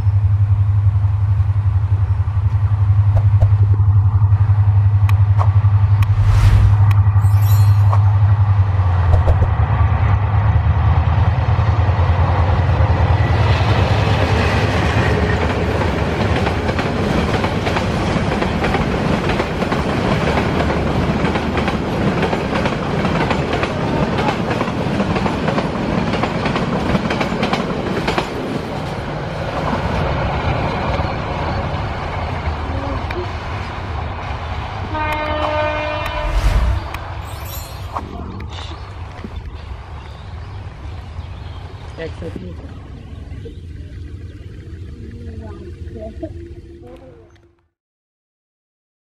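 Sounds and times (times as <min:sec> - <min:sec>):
diesel locomotive engine drone: 0:00.0 - 0:47.7.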